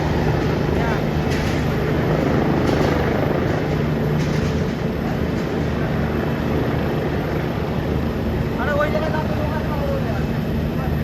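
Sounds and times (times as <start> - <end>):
aircraft engine humming: 0.0 - 11.0.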